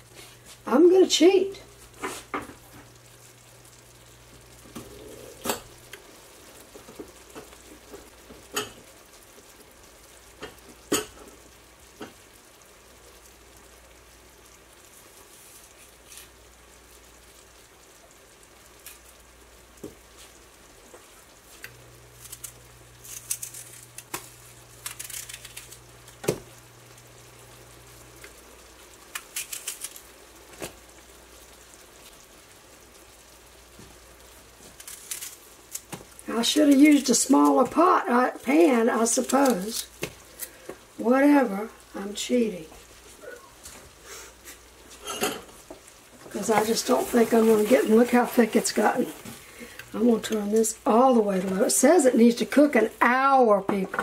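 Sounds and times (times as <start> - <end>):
sauce simmering with faint sizzle: 0.0 - 54.0
onion crackling in hot sauce: 1.6 - 53.0.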